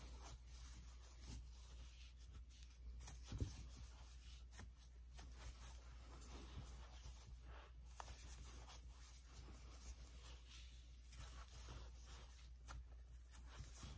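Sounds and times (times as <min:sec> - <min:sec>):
crochet hook rustling yarn: 0:00.0 - 0:13.9.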